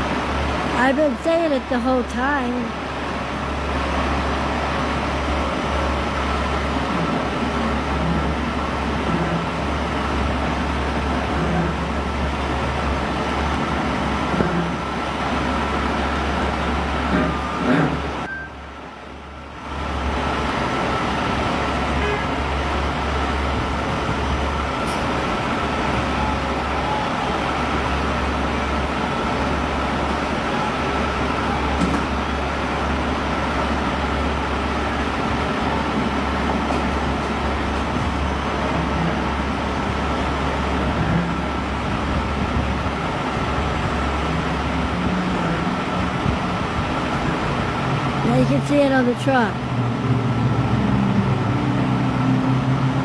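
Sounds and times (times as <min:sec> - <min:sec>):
large vehicle engine rumbling: 0:00.0 - 0:53.0
street traffic: 0:00.0 - 0:53.0.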